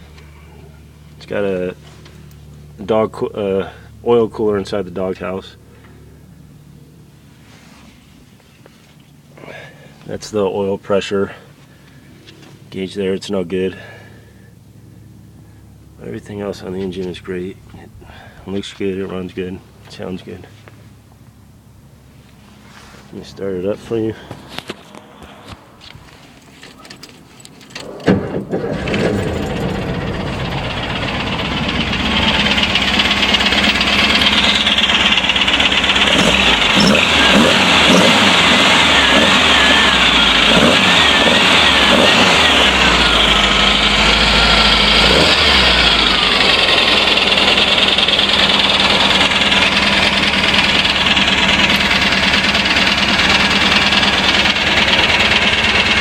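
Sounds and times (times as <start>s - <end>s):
car engine starting and running: 0.0s - 56.0s.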